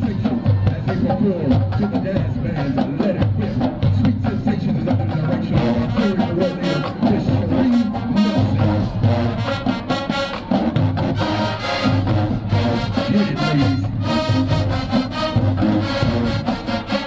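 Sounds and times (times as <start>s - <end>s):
brass band playing upbeat tune: 0.0s - 17.0s.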